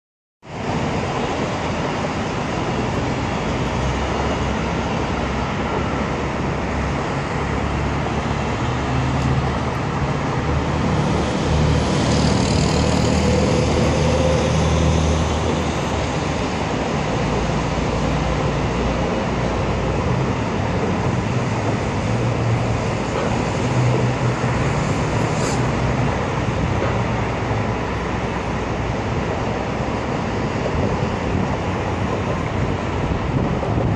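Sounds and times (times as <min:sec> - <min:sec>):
highway traffic roar: 0:00.4 - 0:33.9.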